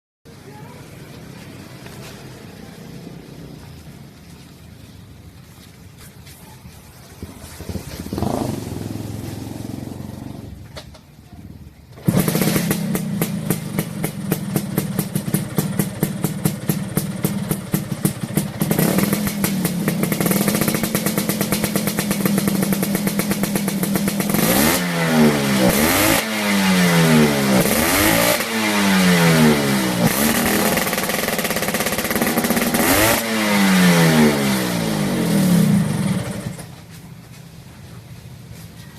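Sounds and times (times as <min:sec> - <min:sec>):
scooter engine idling and revving: 0:00.3 - 0:04.4, 0:06.2 - 0:37.0.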